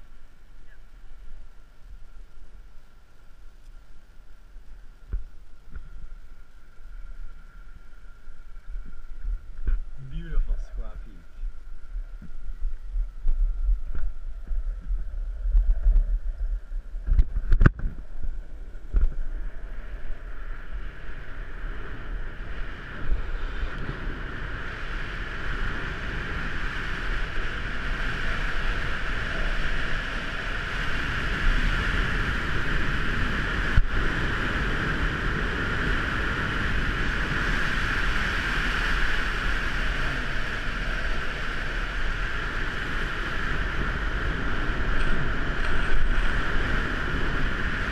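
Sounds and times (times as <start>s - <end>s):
longboard wheels rolling on asphalt: 0.0s - 47.9s
wind on microphone: 0.0s - 47.9s.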